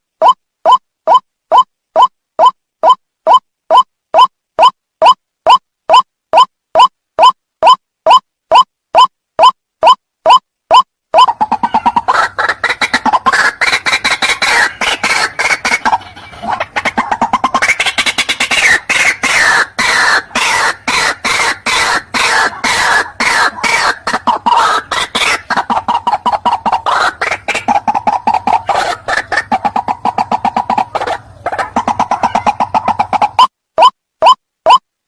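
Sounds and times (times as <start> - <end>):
waterhen harsh clucking: 0.2 - 34.8.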